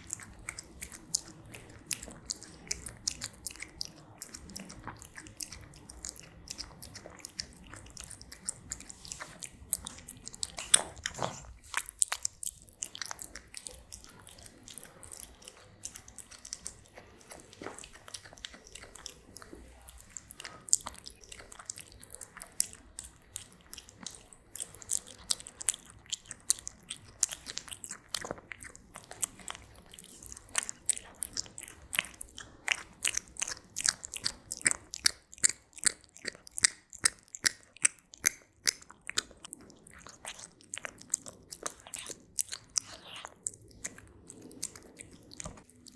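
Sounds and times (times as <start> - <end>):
cat crunching food: 0.0 - 45.9.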